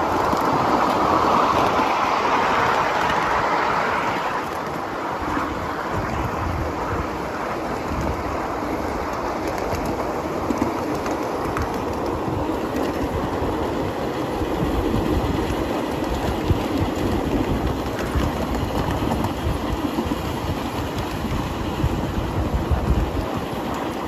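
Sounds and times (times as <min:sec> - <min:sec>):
rail clicks: 0:00.0 - 0:24.0
train wheels rolling on track: 0:00.0 - 0:24.0.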